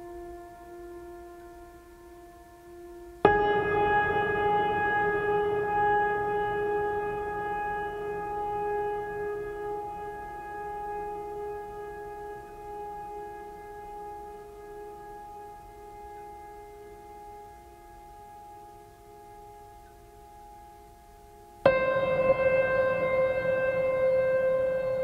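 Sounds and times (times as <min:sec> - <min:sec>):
long held ambient tone: 0:00.0 - 0:25.0.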